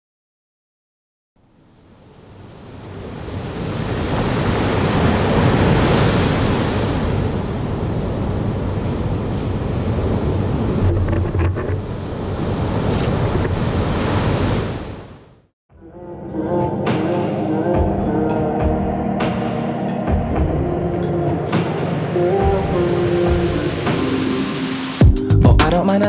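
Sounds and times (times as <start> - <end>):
ocean surf breaking: 2.2 - 15.2, 16.3 - 25.0.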